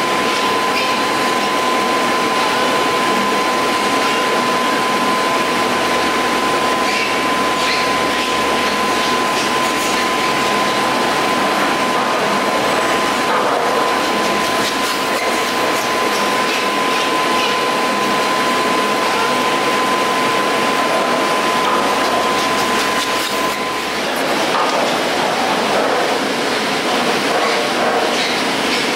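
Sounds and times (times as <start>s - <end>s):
chairlift machinery running: 0.0s - 28.9s
high mechanical whine: 0.0s - 28.9s.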